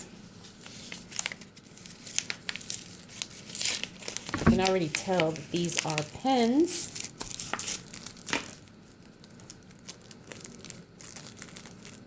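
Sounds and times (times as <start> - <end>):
packaging crinkling and tearing: 0.7 - 12.0.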